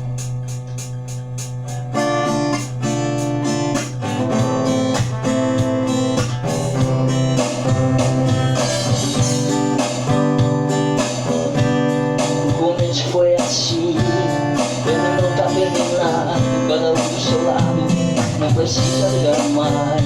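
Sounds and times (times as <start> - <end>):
band playing: 0.0 - 20.0
guitar strumming: 0.0 - 20.0.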